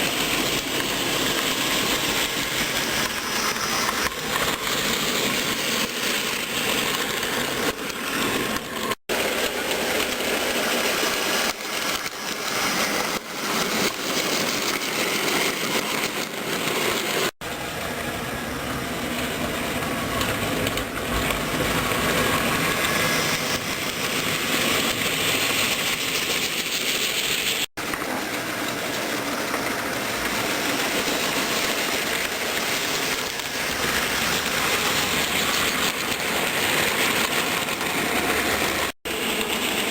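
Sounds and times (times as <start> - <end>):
model train rattling on track: 0.0 - 39.9.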